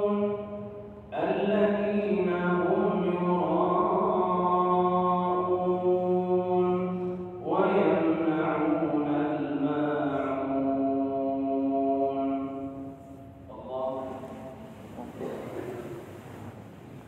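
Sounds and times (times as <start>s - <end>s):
man chanting prayer: 0.0s - 16.2s.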